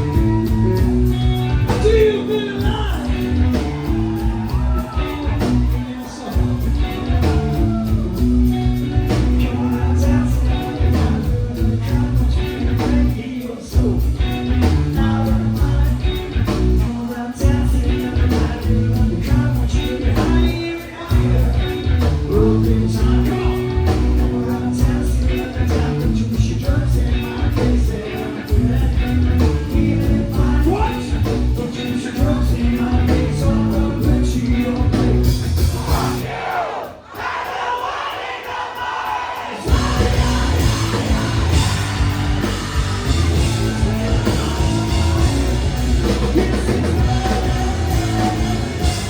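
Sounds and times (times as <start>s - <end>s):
person singing lead vocal: 0.0s - 8.3s, 9.0s - 49.0s
rock band playing: 0.0s - 49.0s.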